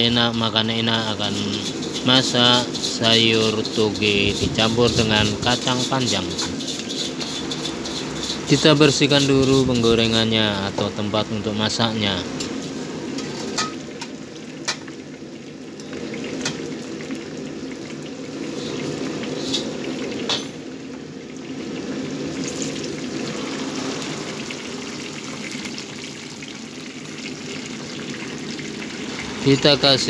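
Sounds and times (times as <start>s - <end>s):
gas burner running: 0.0s - 14.9s, 15.7s - 26.1s, 27.2s - 30.0s
water hissing and sizzling in wok: 0.0s - 30.0s.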